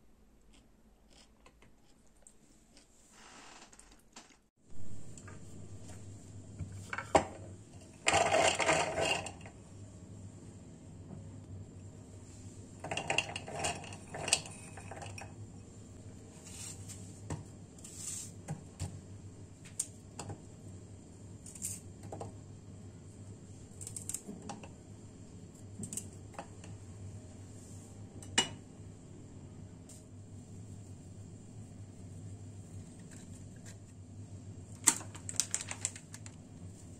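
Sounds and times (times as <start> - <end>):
steady low hum: 4.6 - 36.9.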